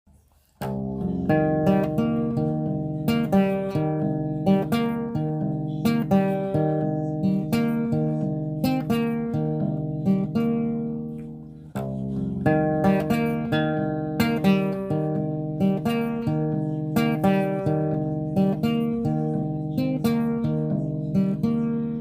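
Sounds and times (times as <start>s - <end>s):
acoustic guitar playing: 0.1s - 22.0s.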